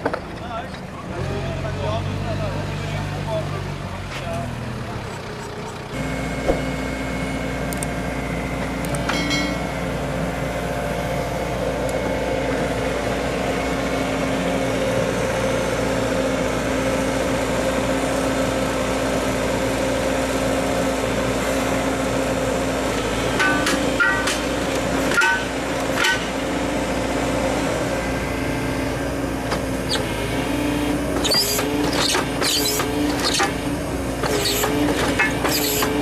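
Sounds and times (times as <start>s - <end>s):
construction machine engine running: 0.0s - 36.0s.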